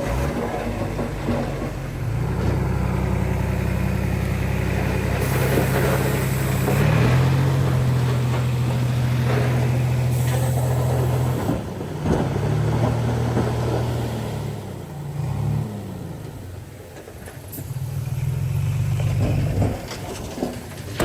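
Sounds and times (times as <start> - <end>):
engine knocks: 0.0 - 14.2, 16.2 - 21.0
diesel engine working under load: 0.0 - 21.0.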